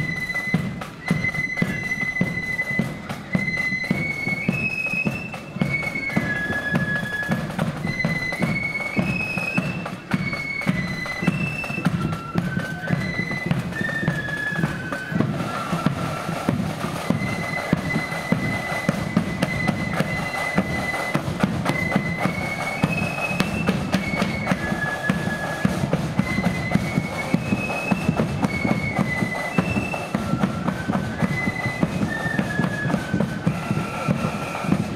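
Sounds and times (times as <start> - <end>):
flutes playing in unison: 0.0 - 34.9
snare and bass drums beat: 0.0 - 34.9.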